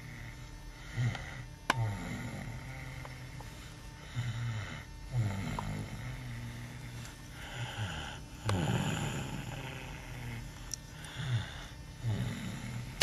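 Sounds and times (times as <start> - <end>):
rasping snores: 0.0 - 3.4, 4.0 - 13.0
airy breathing: 0.0 - 13.0.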